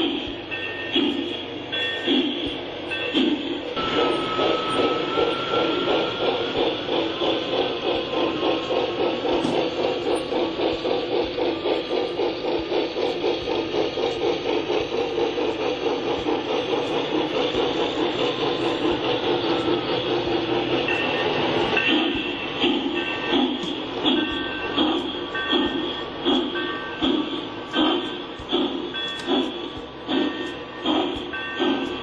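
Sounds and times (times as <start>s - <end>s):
rhythmic machine pulsing: 0.0s - 32.0s.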